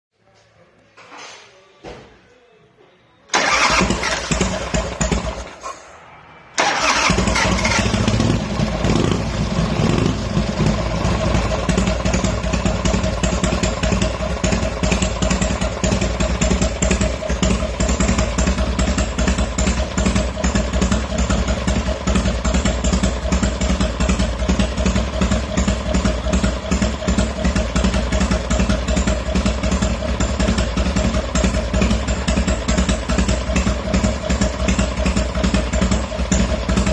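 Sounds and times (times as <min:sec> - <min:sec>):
motorcycle engine starting and running: 0:03.3 - 0:06.0, 0:06.6 - 0:36.9.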